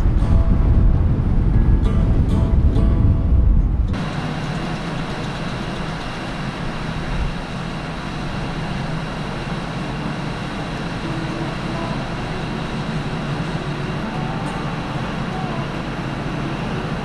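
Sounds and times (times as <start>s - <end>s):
ferry rumble and hiss: 0.0s - 17.0s
low engine hum: 0.0s - 17.0s.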